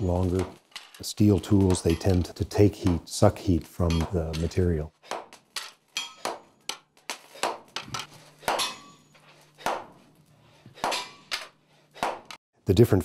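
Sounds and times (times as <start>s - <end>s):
hammer striking hot iron: 0.0s - 10.0s, 10.8s - 12.4s.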